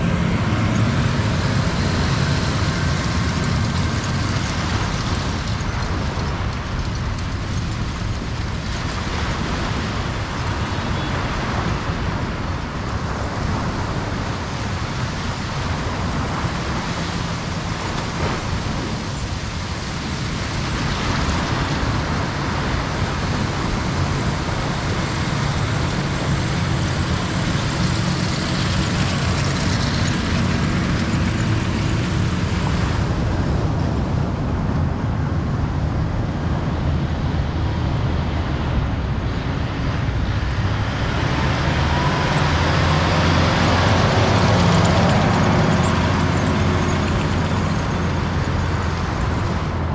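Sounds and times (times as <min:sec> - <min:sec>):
ocean waves washing onto beach: 0:00.0 - 0:49.9.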